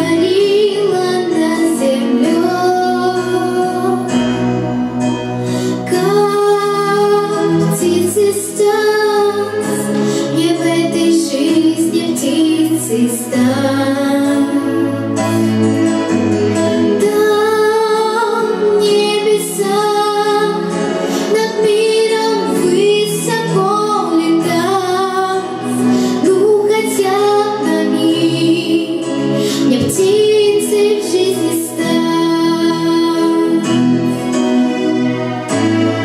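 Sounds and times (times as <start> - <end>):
girl singing into microphone: 0.0 - 4.5, 5.5 - 15.5, 16.9 - 34.4
instrumental accompaniment: 0.0 - 36.0.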